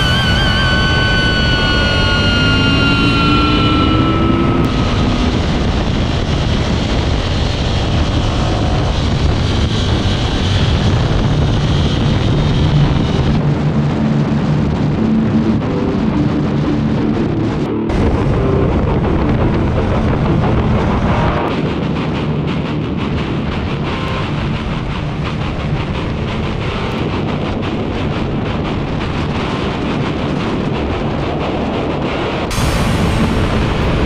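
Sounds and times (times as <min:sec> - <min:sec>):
motorcycle engine running hard: 0:00.0 - 0:34.0
rock guitar music: 0:00.0 - 0:34.0
wind rush over microphone: 0:00.0 - 0:34.0.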